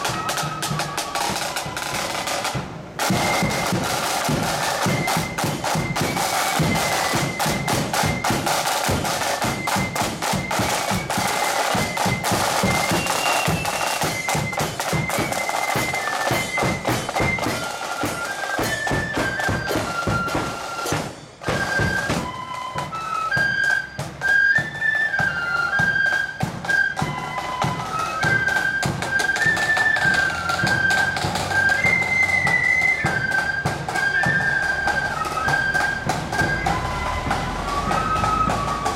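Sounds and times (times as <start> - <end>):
flute melody: 0.0 - 38.9
snare drum rolls: 0.0 - 38.9.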